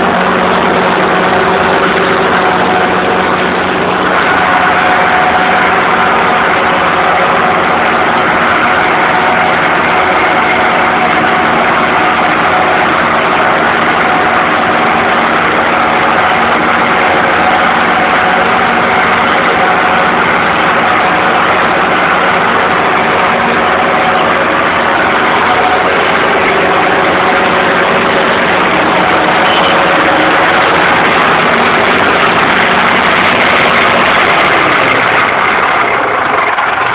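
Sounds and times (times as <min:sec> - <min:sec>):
ride-on mower engine running: 0:00.0 - 0:36.9.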